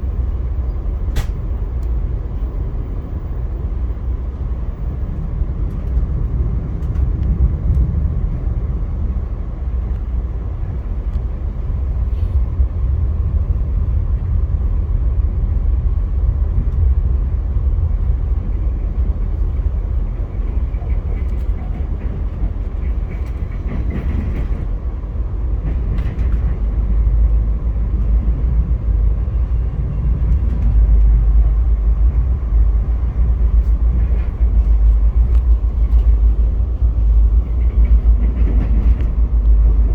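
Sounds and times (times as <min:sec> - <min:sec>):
faint clicks of train wheels: 0:00.0 - 0:15.1, 0:15.7 - 0:39.9
passenger train rumbling on tracks: 0:00.0 - 0:39.9.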